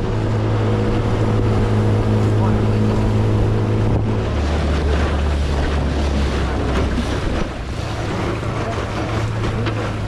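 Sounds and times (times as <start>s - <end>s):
motorboat engine running: 0.0s - 10.0s
wind buffeting the microphone: 0.0s - 10.0s.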